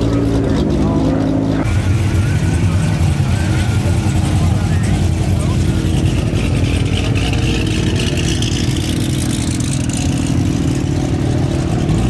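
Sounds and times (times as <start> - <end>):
loud car engine running: 0.0 - 12.0.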